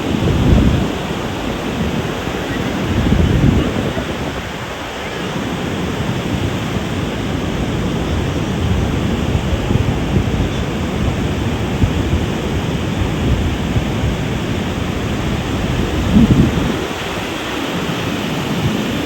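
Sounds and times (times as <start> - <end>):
ocean waves on sandy beach: 0.0 - 19.0.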